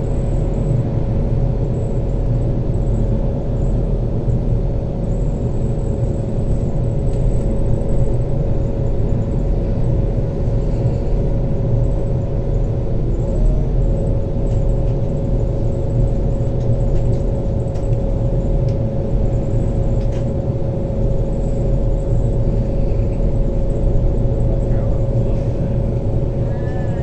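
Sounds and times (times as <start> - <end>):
constant steady hum: 0.0 - 27.0
train rumbling inside carriage: 0.0 - 27.0.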